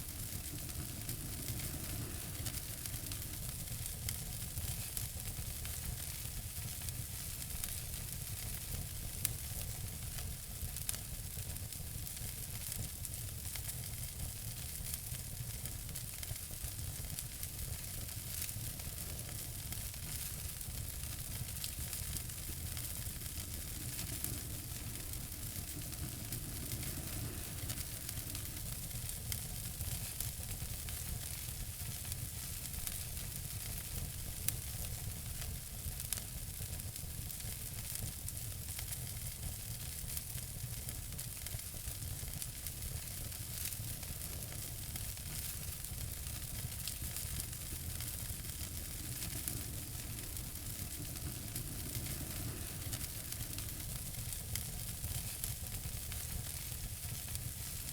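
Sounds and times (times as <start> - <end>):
fire crackling in fireplace: 0.0 - 57.9.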